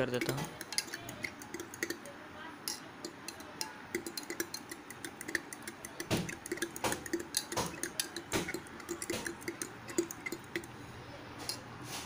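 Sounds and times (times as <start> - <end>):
utensil clinking against glass: 0.0 - 10.8.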